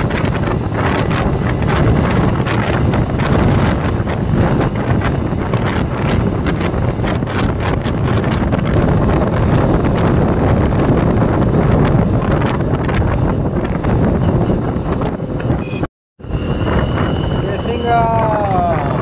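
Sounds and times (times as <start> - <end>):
motorcycle and road noise: 0.0 - 19.0
wind rushing over microphone: 0.0 - 19.0.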